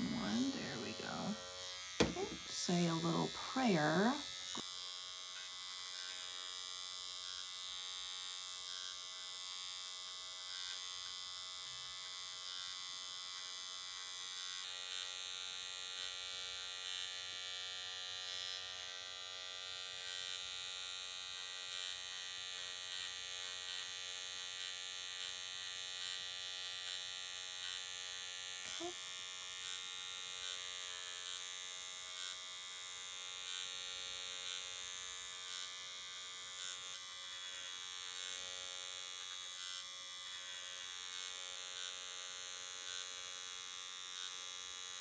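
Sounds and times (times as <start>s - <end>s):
microneedling pen buzzing: 0.0s - 45.0s.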